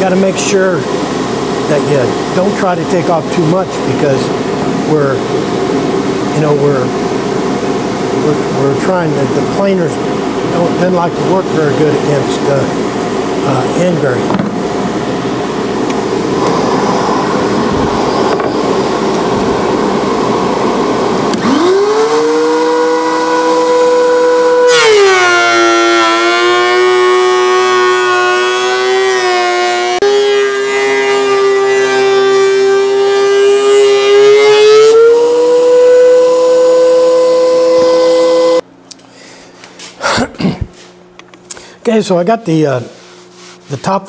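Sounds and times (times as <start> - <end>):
rushing workshop machine noise: 0.0 - 38.7
planer motor whine: 0.8 - 38.6.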